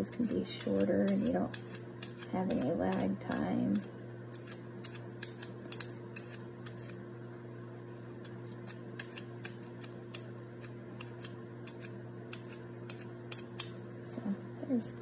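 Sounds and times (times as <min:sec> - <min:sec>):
peeler scraping carrot: 0:00.0 - 0:07.0, 0:08.2 - 0:13.7
faint steady hum: 0:00.0 - 0:15.0.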